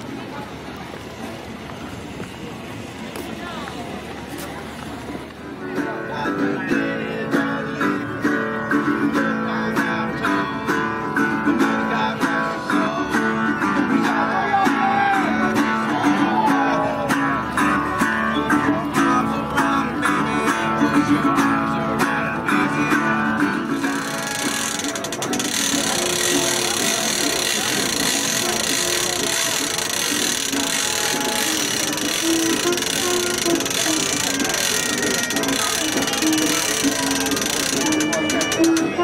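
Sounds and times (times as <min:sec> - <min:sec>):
acoustic guitar strumming: 0:05.4 - 0:39.0.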